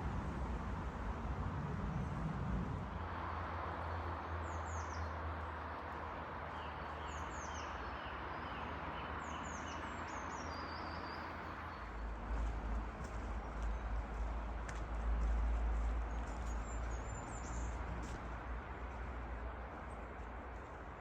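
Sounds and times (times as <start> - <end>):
road traffic roar: 0.0 - 21.0
songbirds chirping: 3.2 - 21.0.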